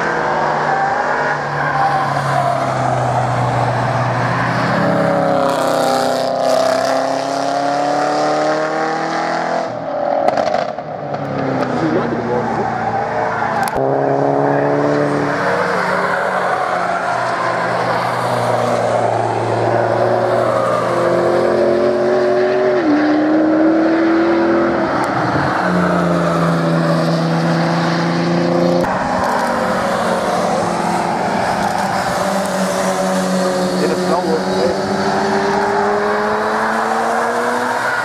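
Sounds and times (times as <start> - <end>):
race car engines accelerating: 0.0 - 38.0.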